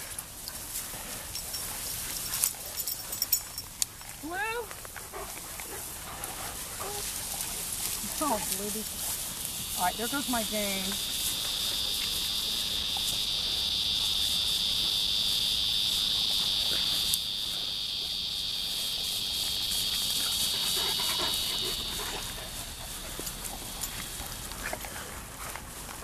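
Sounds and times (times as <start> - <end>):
dogs rustling through grass: 0.0 - 26.0
high-pitched insect chorus: 0.0 - 26.0.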